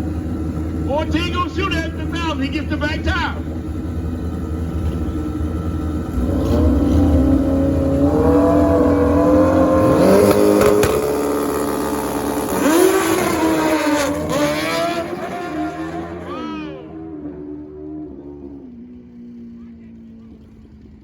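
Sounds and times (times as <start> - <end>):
motorcycle engines at full throttle: 0.0 - 21.0.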